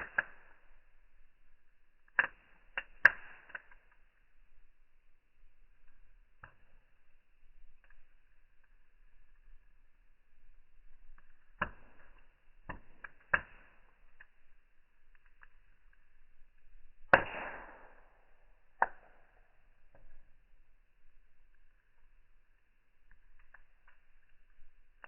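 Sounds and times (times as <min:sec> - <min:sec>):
slowed wood fire pops: 0:00.0 - 0:25.0.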